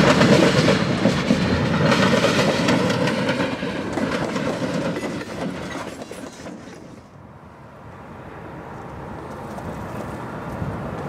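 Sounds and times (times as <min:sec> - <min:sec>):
diesel freight train passing: 0:00.0 - 0:11.0.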